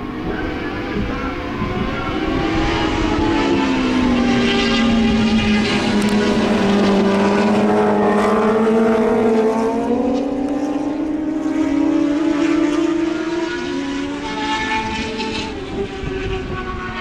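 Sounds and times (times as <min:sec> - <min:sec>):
racing motorcycle engine revving: 0:00.1 - 0:17.0.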